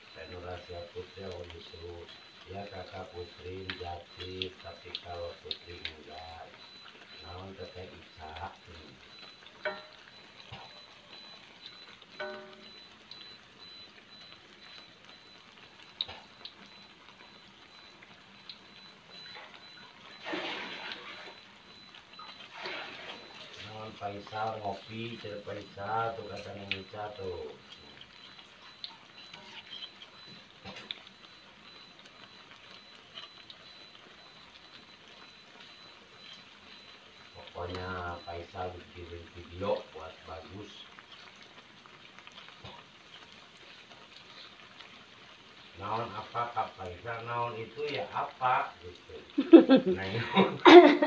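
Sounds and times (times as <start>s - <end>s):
food sizzling in hot oil: 0.0s - 51.0s.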